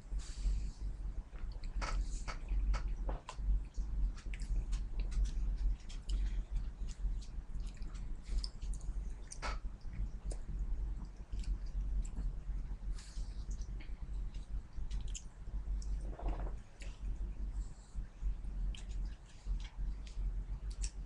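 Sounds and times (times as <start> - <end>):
steady low hum: 0.0 - 21.0
wet eating sounds: 1.4 - 21.0.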